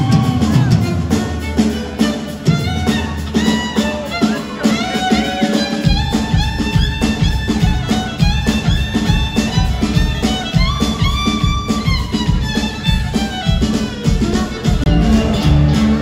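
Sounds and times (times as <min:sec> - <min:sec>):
drum kit: 0:00.0 - 0:16.0
fiddle with sliding notes: 0:00.0 - 0:16.0
upright bass: 0:00.0 - 0:16.0.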